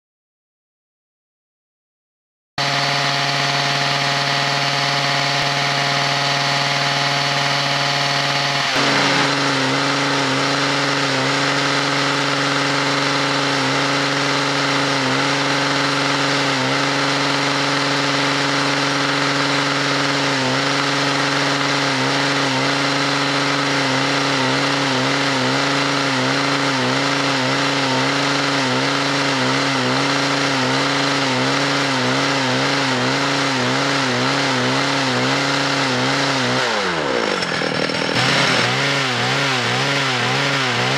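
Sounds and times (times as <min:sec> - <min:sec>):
chainsaw-powered winch running: 0:02.6 - 0:40.9.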